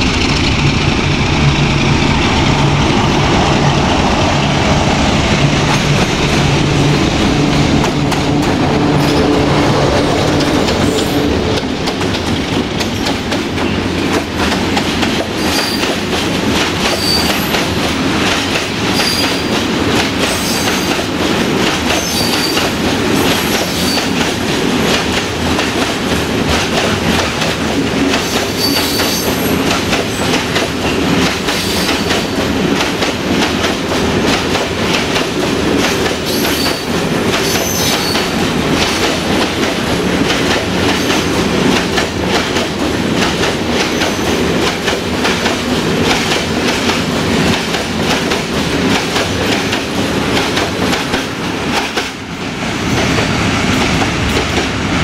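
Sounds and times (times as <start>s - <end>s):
train wheels rumbling over rails: 0.0s - 55.0s.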